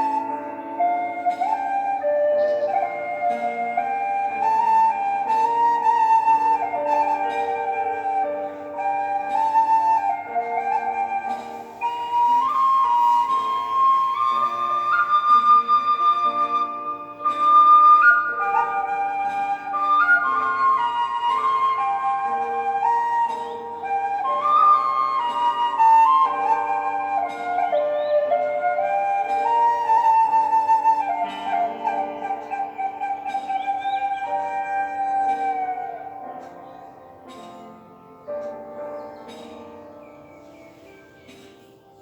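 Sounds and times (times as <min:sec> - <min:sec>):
bamboo flute melody: 0:00.0 - 0:42.0
held accompaniment: 0:00.0 - 0:42.0.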